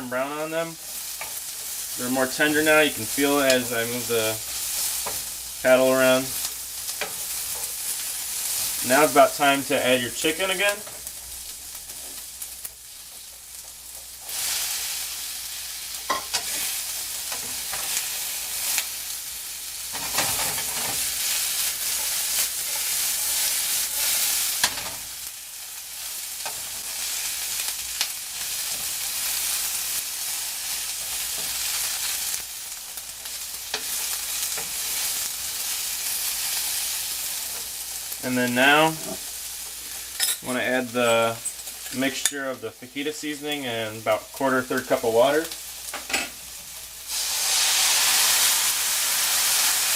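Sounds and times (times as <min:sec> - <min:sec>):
food sizzling in a frying pan: 0:00.0 - 0:49.9.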